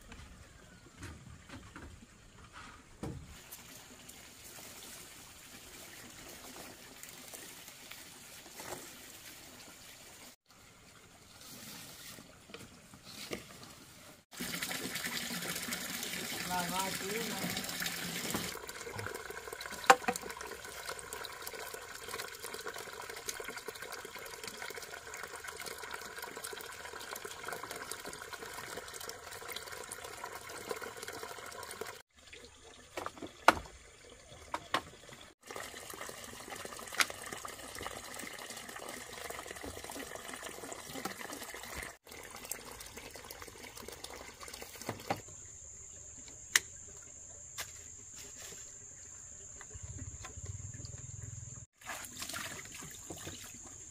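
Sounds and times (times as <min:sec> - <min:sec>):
water running from hose: 0:03.3 - 0:45.2, 0:51.7 - 0:53.9.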